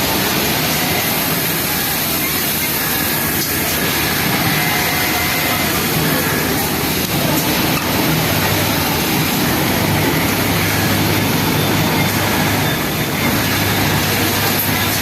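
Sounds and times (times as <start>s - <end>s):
sewing machine running: 0.0s - 15.0s.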